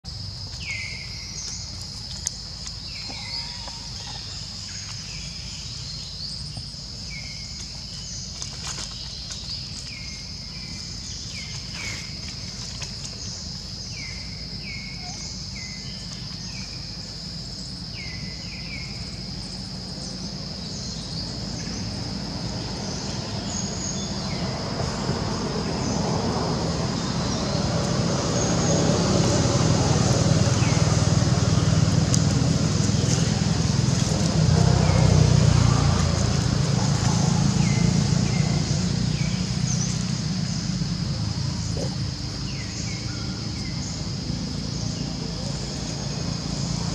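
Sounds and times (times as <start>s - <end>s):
high insect drone: 0.1s - 46.9s.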